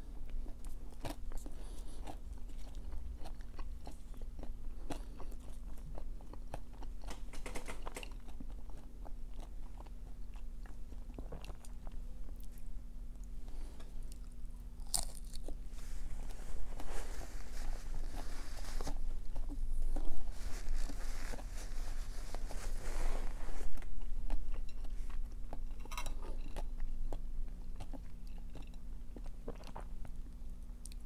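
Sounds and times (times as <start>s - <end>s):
crunchy wet chewing: 0.2s - 15.6s, 16.2s - 22.6s, 23.7s - 31.0s.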